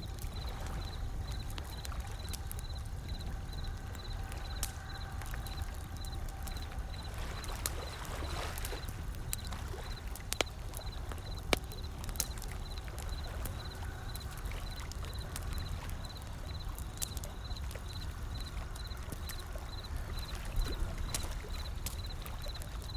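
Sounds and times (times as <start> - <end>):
wood fire crackling and popping: 0.0 - 22.9.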